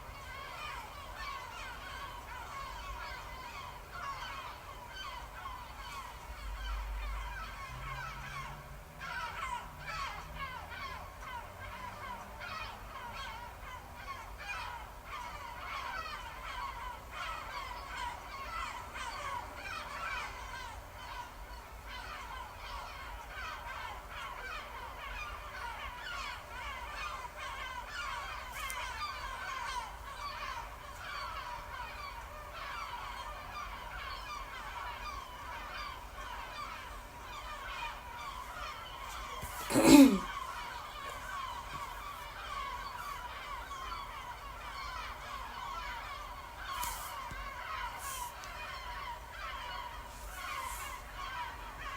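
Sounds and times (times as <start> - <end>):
seagulls calling: 0.0 - 51.9.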